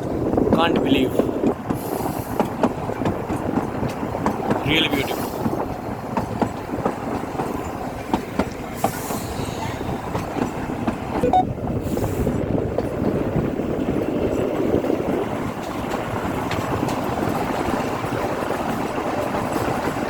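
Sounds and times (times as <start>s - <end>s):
wheels clicking over rail joints: 0.0s - 11.2s, 12.2s - 20.0s
rumble of moving train coaches: 0.0s - 20.0s.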